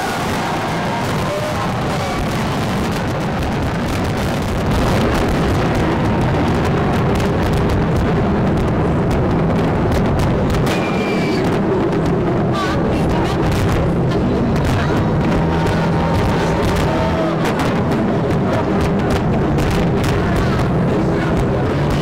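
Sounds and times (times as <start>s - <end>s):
fireworks bursts and booms: 0.0s - 22.0s.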